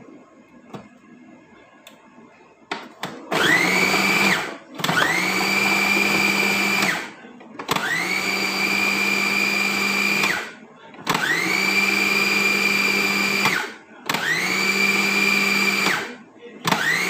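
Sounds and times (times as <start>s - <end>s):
food processor motor whine: 3.3s - 17.0s.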